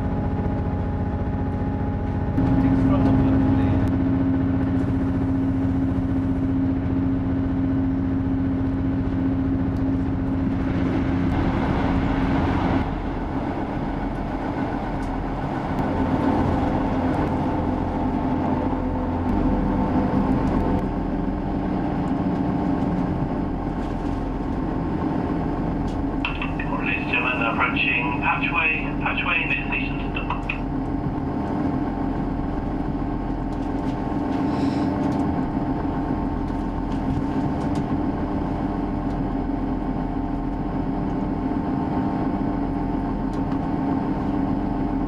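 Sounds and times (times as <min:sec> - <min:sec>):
diesel engine droning: 0:00.0 - 0:45.0
train wheels rumbling on rails: 0:08.7 - 0:45.0.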